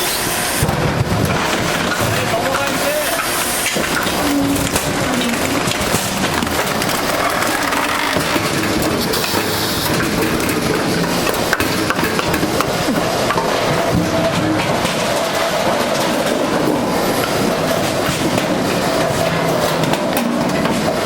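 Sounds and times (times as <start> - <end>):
machinery clattering: 0.6 - 21.0
logs cracking and splintering: 1.2 - 19.1.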